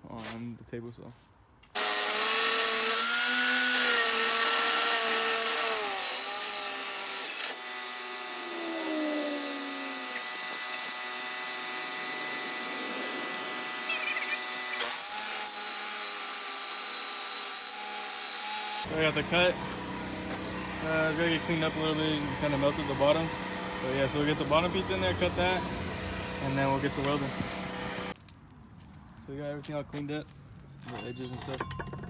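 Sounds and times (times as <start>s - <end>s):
electric saw cutting pipe: 1.8s - 28.2s.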